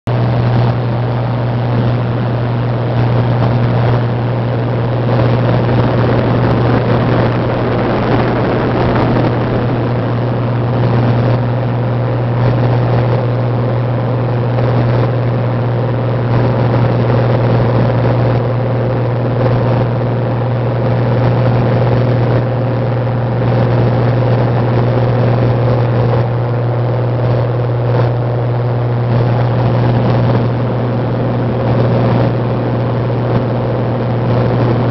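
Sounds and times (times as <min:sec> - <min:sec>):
propeller plane engine drone: 0:00.0 - 0:34.9
rushing air noise: 0:00.1 - 0:34.9.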